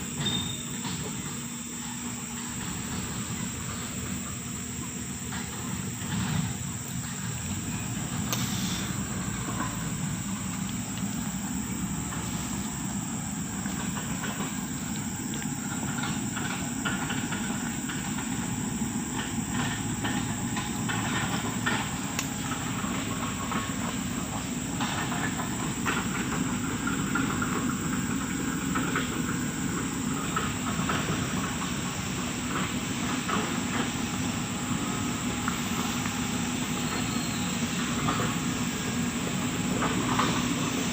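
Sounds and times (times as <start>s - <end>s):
diesel machinery rumbling: 0.0s - 40.9s
rattles and clanks: 0.0s - 40.9s.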